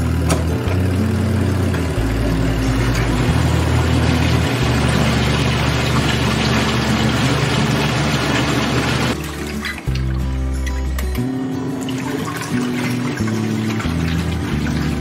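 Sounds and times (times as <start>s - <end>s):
washing machine spinning: 0.0s - 11.0s, 11.7s - 15.0s
background music with bass: 0.0s - 15.0s.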